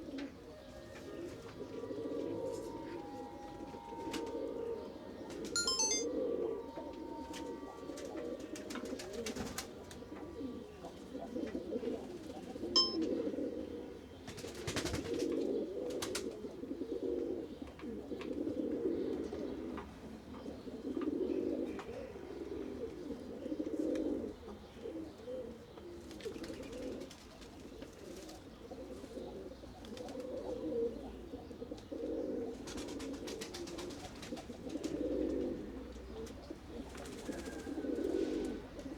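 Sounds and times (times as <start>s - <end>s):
pigeons cooing: 0.0s - 5.5s, 6.2s - 38.9s.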